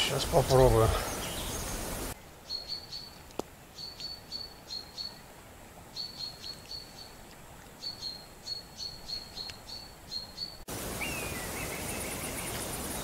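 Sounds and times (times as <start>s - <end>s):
small songbird singing: 0.0s - 5.3s, 5.9s - 7.2s, 7.8s - 13.0s.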